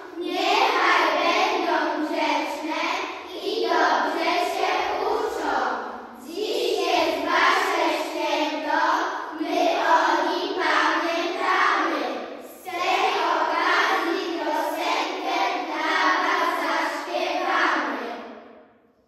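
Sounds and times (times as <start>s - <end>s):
children's voices in unison: 0.0s - 18.5s.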